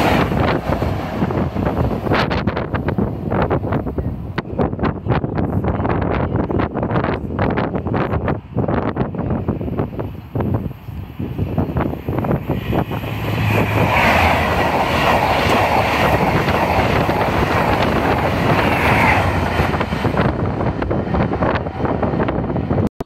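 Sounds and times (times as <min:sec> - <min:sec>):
high-speed train passing: 0:00.0 - 0:22.9.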